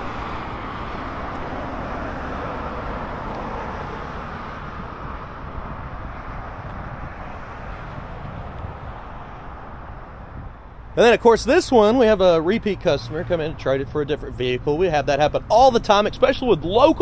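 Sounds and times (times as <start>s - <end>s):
passing vehicles rushing: 0.0s - 17.0s.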